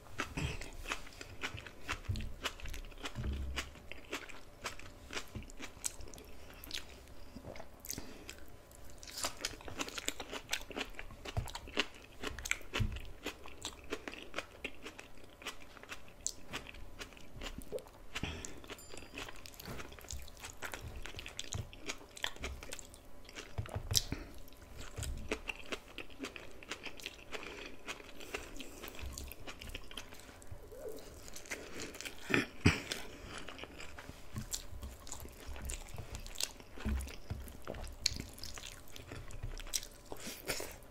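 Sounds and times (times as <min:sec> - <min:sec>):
close-miked chewing and biting: 0:00.0 - 0:40.9.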